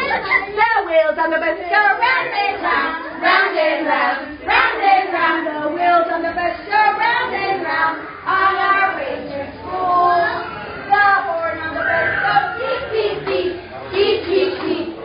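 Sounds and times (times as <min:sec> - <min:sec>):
children and women singing: 0:00.0 - 0:15.0.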